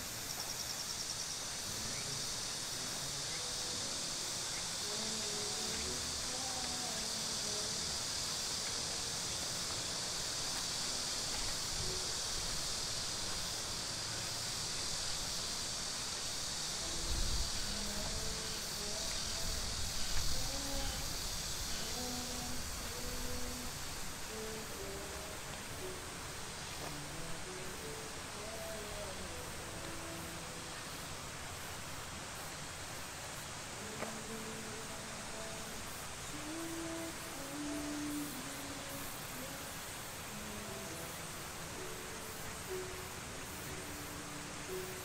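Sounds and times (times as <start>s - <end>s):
faint distant voices: 0.0s - 45.0s
insect chorus chirring: 0.0s - 45.0s.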